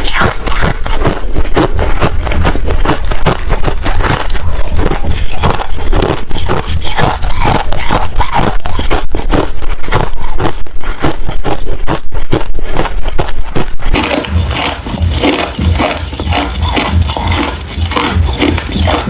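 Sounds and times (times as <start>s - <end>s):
ice crunching and chewing: 0.0s - 19.0s.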